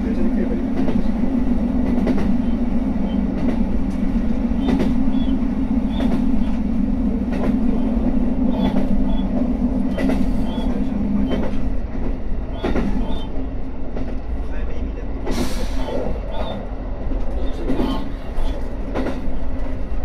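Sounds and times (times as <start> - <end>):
diesel railcar engine drone: 0.0 - 20.0.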